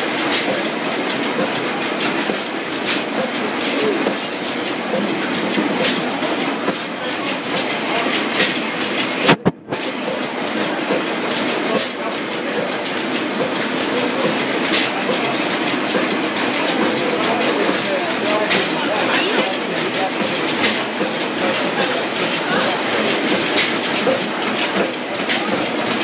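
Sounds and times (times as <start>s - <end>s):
stationary gas engine clattering: 0.0s - 26.0s.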